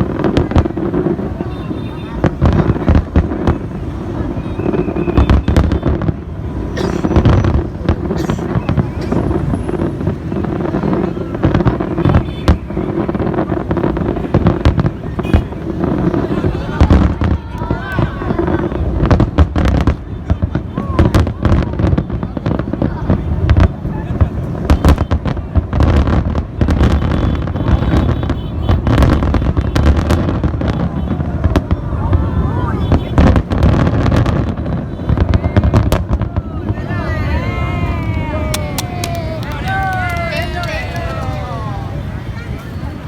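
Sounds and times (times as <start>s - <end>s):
loud firework bangs: 0.0s - 42.1s
fireworks bursting and crackling: 0.0s - 43.0s.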